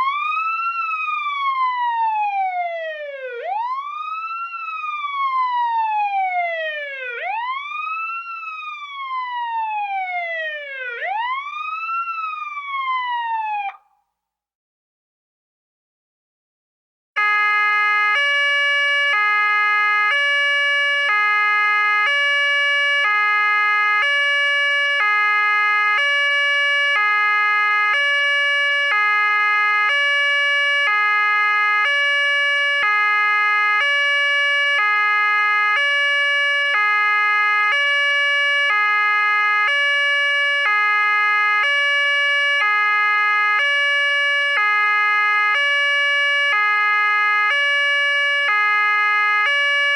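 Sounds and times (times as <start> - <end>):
two-tone police siren: 0.0 - 14.0, 17.2 - 49.9.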